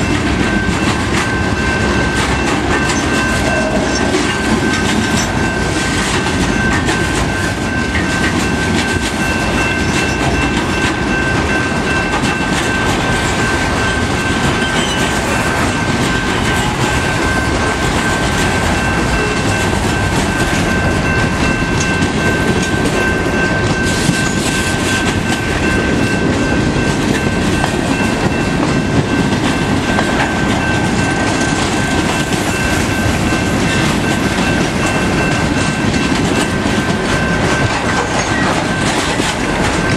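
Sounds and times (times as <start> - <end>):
steady high-pitched tone: 0.0 - 39.9
train wheels rumbling on rail: 0.0 - 39.9.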